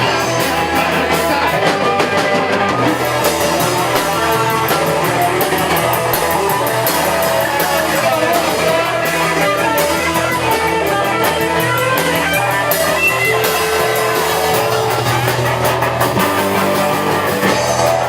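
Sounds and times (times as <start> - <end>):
drum kit with cymbal hits: 0.0 - 18.0
electric guitars: 0.0 - 18.0.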